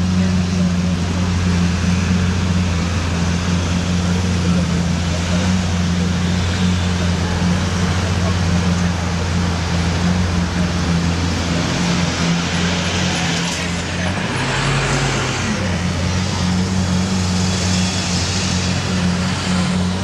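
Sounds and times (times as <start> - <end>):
street traffic: 0.0 - 20.0
vehicle engine running: 0.0 - 20.0.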